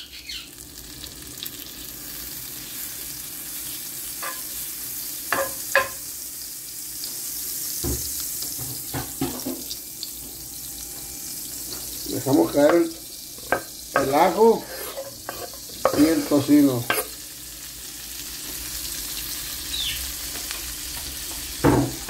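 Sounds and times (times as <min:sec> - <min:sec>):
fat sizzling in a frying pan: 0:00.0 - 0:22.0.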